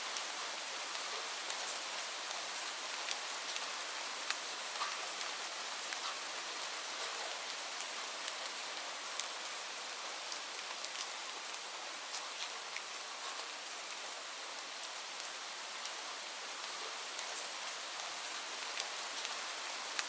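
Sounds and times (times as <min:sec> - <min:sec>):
rain hissing on leaves: 0:00.0 - 0:20.0.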